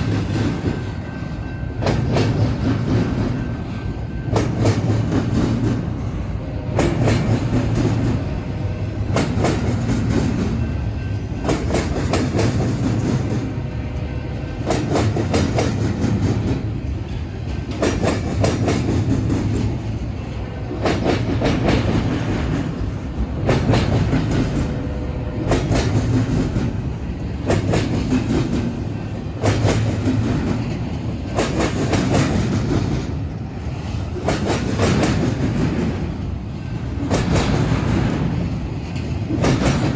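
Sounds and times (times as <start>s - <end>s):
train rumbling: 0.0s - 39.9s
train wheels clacking over crossing: 0.0s - 39.9s.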